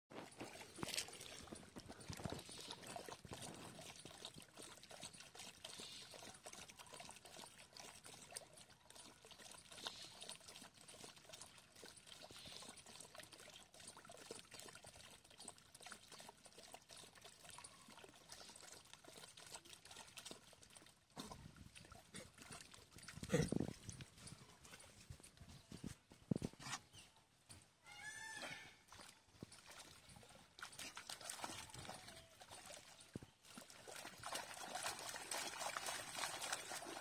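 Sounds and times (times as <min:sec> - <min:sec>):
dog lapping at water: 0:00.1 - 0:26.9, 0:28.8 - 0:37.0
hose water splashing into puddle: 0:00.2 - 0:22.1, 0:28.6 - 0:37.0.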